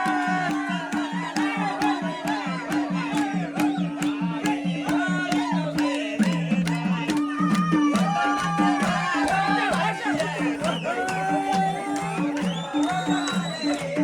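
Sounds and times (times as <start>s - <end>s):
drum beat: 0.0s - 14.0s
person singing: 0.0s - 14.0s.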